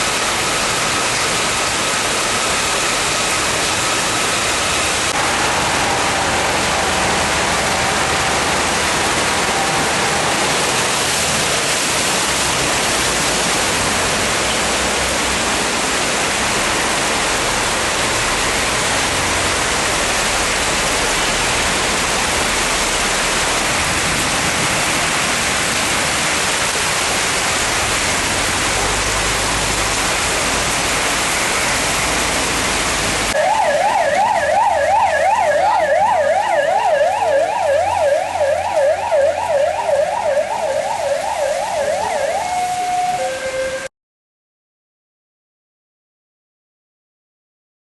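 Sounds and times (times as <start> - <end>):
heavy rain: 0.0 - 43.9
wind: 0.0 - 43.9.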